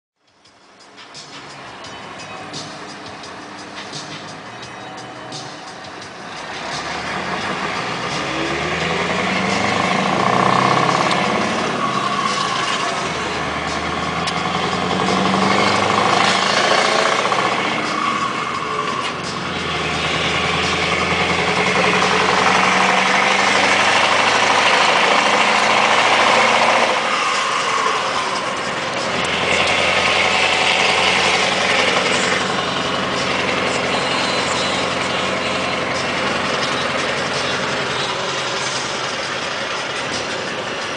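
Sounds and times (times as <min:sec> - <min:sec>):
truck diesel engine accelerating: 0:00.2 - 0:40.9.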